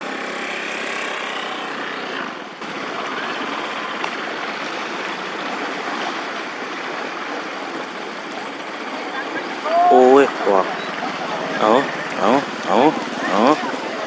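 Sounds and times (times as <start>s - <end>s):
floodwater rushing: 2.6s - 14.0s.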